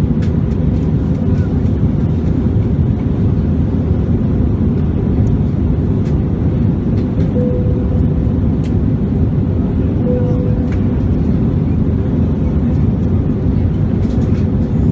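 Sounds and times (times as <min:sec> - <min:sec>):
jet engine and airflow rumble: 0:00.0 - 0:14.9.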